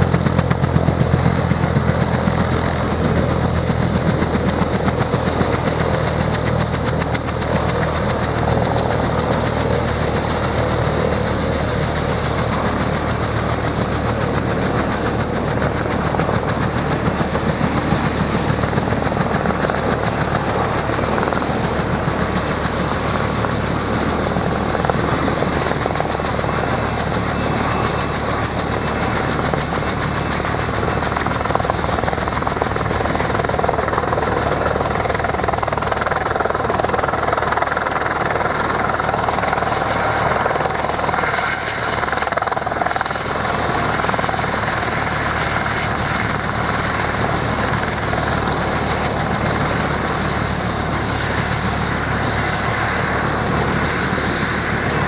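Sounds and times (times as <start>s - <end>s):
helicopter in flight: 0.0s - 55.0s
helicopter turbine and rotor hum: 0.0s - 55.0s.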